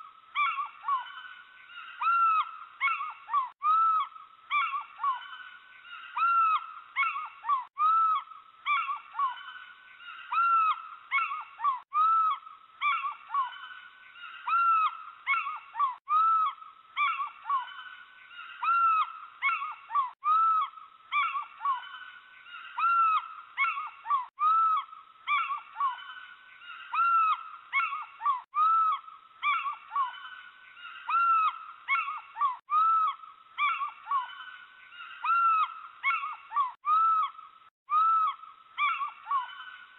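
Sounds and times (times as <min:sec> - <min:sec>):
owls calling: 0:00.0 - 0:39.9.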